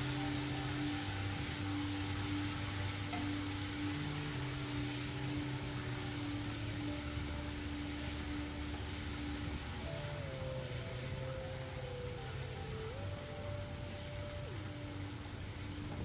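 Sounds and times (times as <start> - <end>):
sauce sizzling in a pot: 0.0 - 13.1
soft background music: 0.0 - 16.0.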